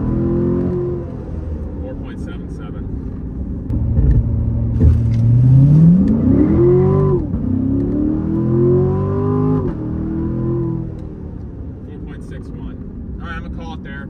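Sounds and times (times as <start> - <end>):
diesel car engine accelerating: 0.0 - 14.0.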